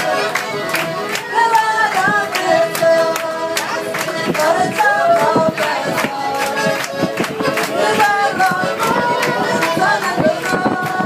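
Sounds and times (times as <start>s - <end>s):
accordion music: 0.0s - 11.0s.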